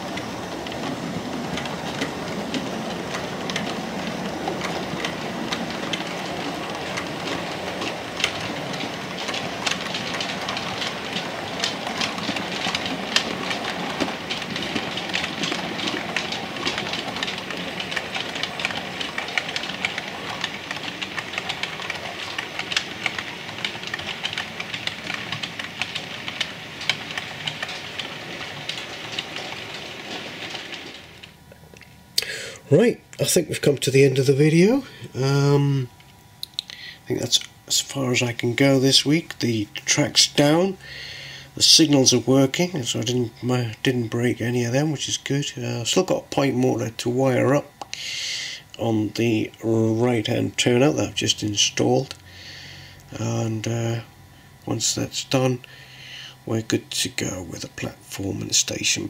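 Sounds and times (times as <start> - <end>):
model train running: 0.0 - 31.5, 32.2 - 59.0
wheels clicking over rail joints: 0.0 - 59.0.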